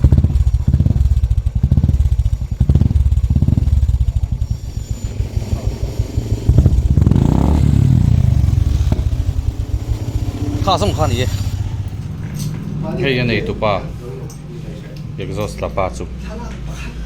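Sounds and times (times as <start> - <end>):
motorcycle engine idling and revving: 0.0 - 16.4.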